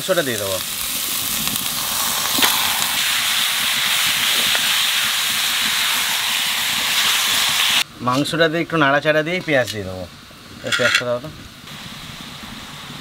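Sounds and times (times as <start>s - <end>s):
chicken sizzling in hot fat: 0.0s - 13.0s.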